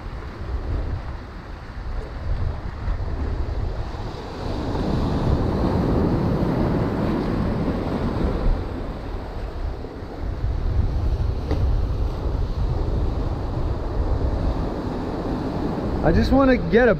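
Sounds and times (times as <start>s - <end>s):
surf washing over rocks: 0.0s - 16.9s
wind rumbling on microphone: 0.0s - 16.9s.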